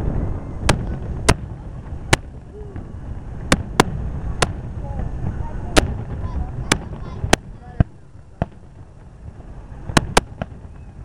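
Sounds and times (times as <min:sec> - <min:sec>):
firework bangs: 0:00.0 - 0:11.0
low rumble: 0:00.0 - 0:11.0.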